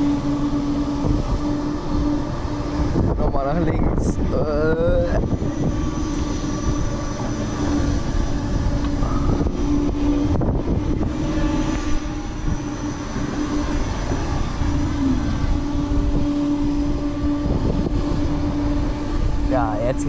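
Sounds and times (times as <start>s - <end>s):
ride mechanical hum: 0.0s - 20.0s
wind buffeting microphone: 0.0s - 20.0s.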